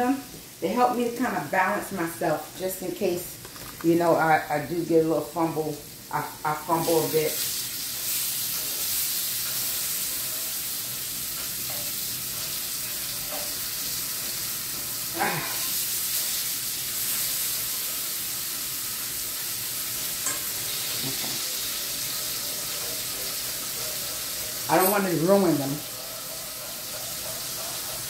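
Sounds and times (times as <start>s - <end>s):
scallops sizzling in a pan: 0.0s - 3.3s, 4.2s - 28.0s.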